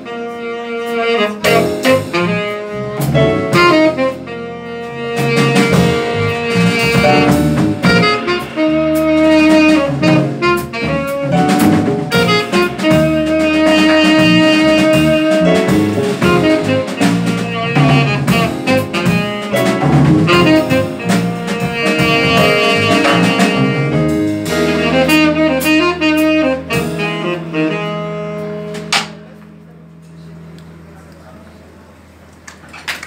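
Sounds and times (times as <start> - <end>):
jazz quartet playing: 0.0 - 33.0.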